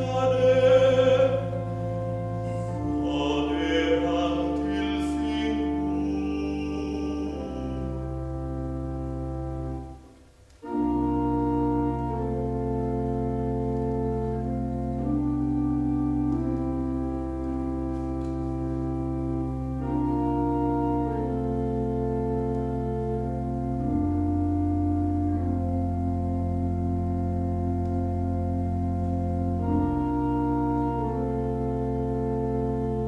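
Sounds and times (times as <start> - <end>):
pipe organ chords: 0.0 - 33.0.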